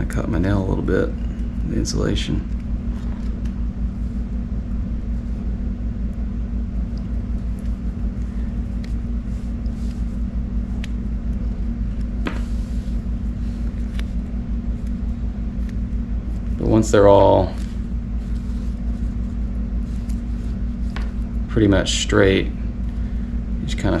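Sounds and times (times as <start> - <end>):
mechanical rumble-hum: 0.0 - 24.0.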